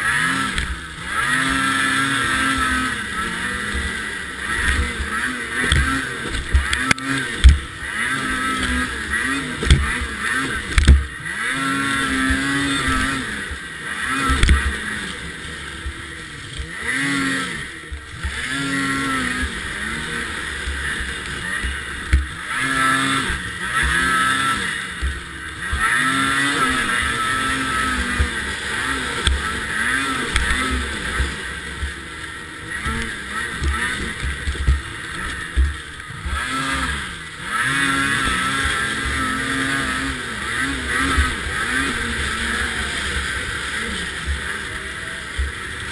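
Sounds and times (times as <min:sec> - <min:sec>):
snowmobile engine revving: 0:00.0 - 0:45.9.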